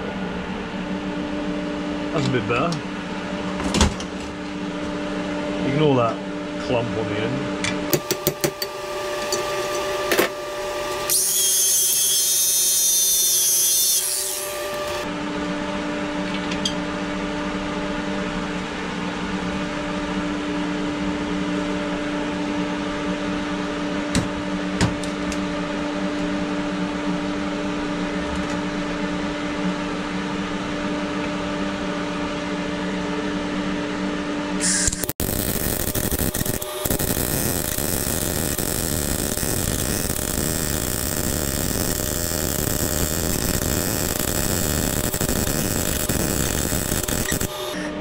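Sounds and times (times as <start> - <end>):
cooling fan: 0.0 - 48.0
welder electrical hum: 0.0 - 48.0.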